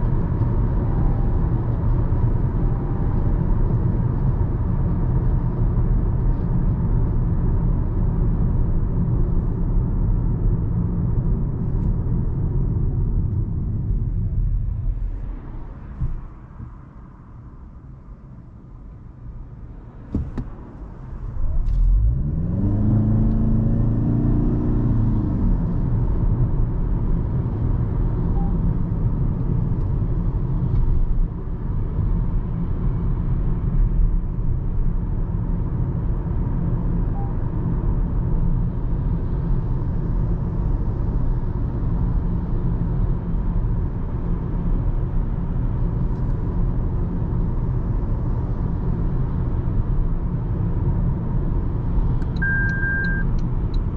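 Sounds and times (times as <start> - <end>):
car engine rumble: 0.0 - 53.9
road noise: 0.0 - 53.9.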